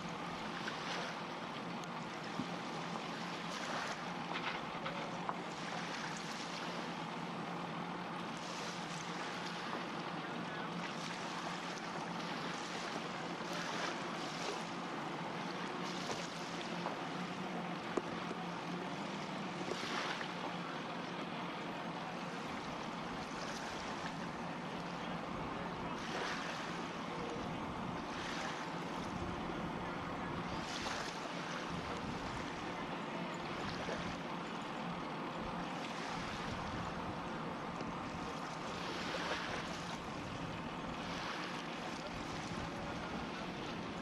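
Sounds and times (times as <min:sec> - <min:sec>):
low engine drone: 0:00.0 - 0:44.0
rushing water: 0:00.0 - 0:44.0.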